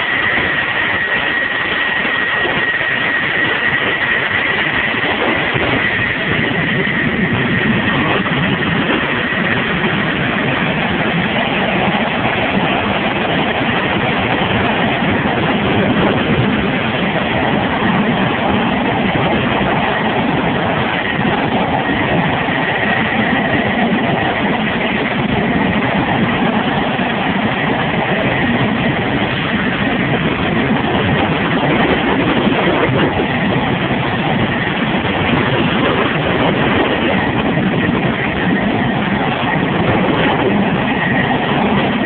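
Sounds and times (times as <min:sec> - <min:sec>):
jet engine idling: 0:00.0 - 0:42.0.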